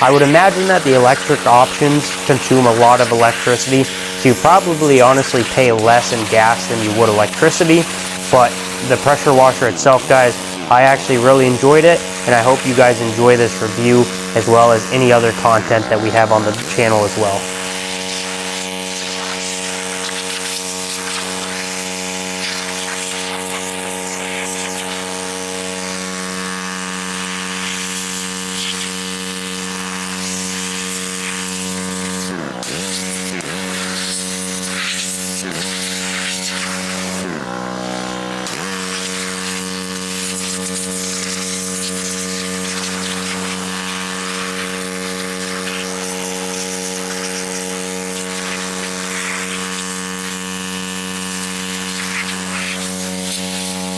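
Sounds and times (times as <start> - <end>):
small gas engine running: 0.0 - 53.9.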